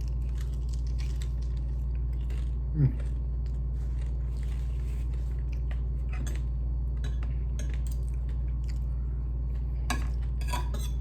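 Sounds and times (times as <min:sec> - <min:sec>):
chewing crispy fried chicken: 0:00.0 - 0:10.4
steady low hum: 0:00.0 - 0:11.0.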